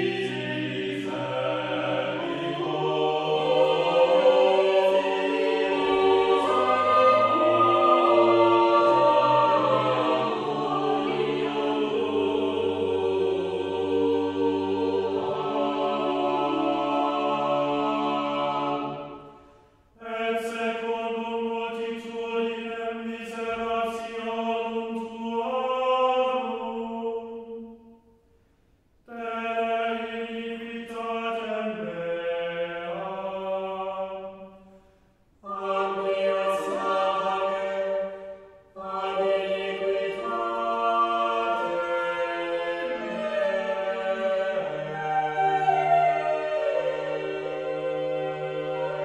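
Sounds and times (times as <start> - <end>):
chant-like sustained vocal chords: 0.0 - 28.0, 29.1 - 49.0.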